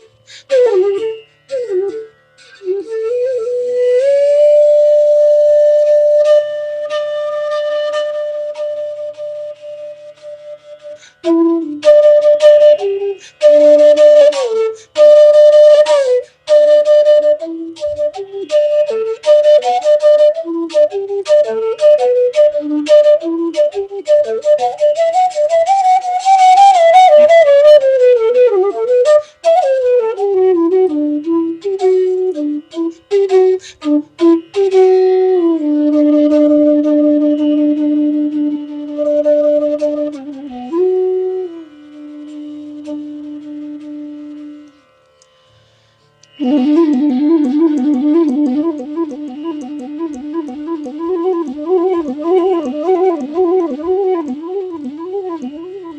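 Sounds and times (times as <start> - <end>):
bamboo flute melody: 0.0 - 55.9.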